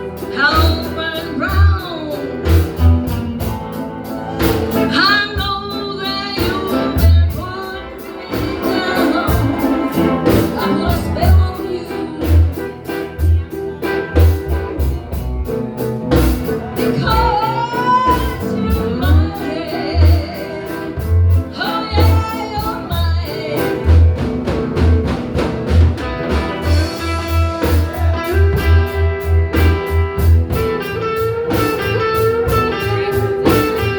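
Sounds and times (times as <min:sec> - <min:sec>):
lead guitar phrases: 0:00.0 - 0:33.9
live blues band playing: 0:00.0 - 0:33.9.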